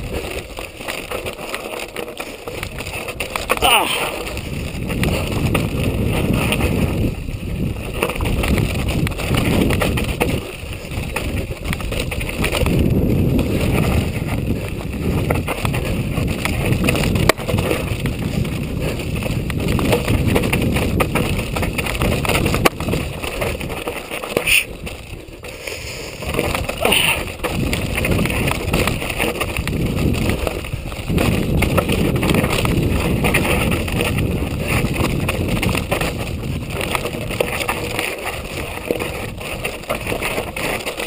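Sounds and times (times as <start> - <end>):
wind rushing over microphone: 0.0 - 0.6, 2.6 - 40.8
bike rattling over stones: 0.0 - 41.0
bike tyres rolling over loose rock: 0.0 - 41.0.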